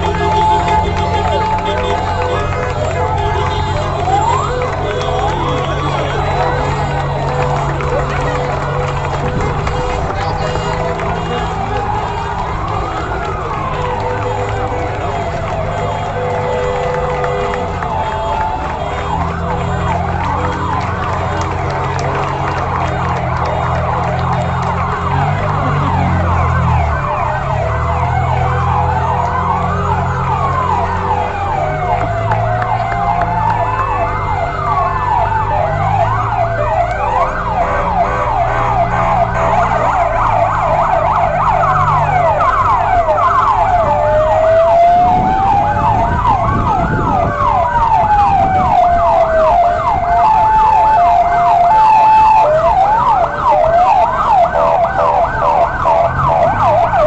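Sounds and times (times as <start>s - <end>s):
fire truck sirens wailing: 0.0s - 57.0s
two-note alternating siren: 0.0s - 57.0s
yelping siren: 0.0s - 57.0s.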